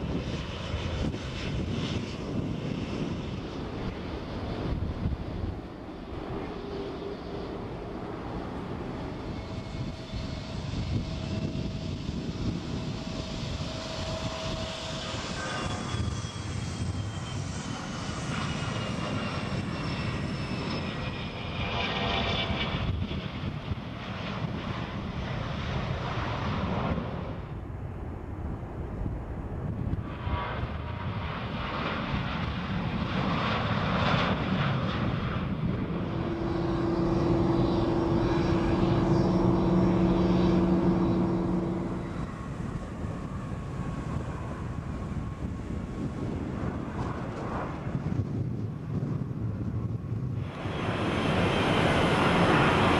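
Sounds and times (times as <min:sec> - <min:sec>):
jet engine falling whine: 0:00.0 - 0:52.9
jet engines low drone: 0:00.0 - 0:52.9.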